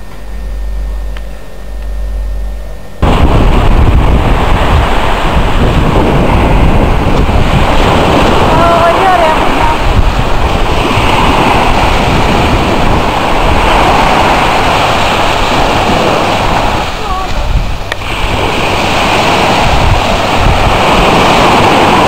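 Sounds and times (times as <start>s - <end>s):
small waves breaking on beach: 3.0s - 22.0s
wind buffeting microphone: 3.0s - 22.0s.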